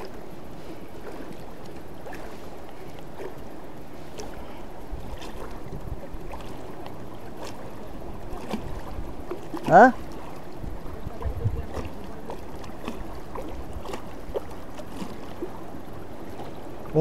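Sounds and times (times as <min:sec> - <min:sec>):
light splashing: 0:00.0 - 0:17.0
water lapping against float tube: 0:00.0 - 0:17.0.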